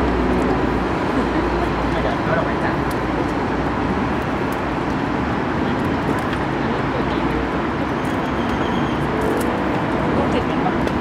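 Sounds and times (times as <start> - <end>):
motor traffic hum: 0.0 - 11.0.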